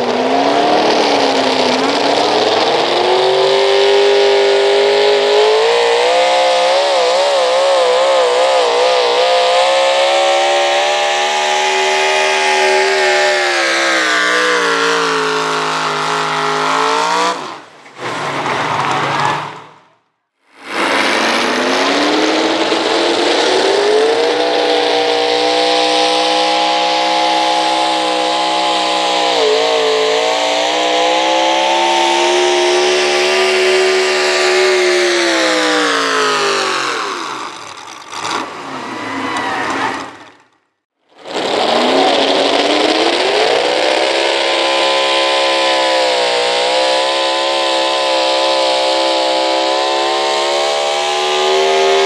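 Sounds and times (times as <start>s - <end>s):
truck engine at full throttle: 0.0s - 52.0s.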